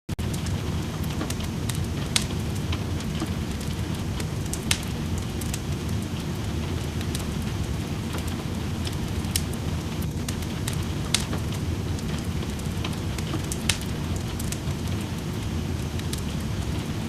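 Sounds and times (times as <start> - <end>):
low rumble of rain: 0.1 - 17.0
wood fire crackling: 0.2 - 17.0.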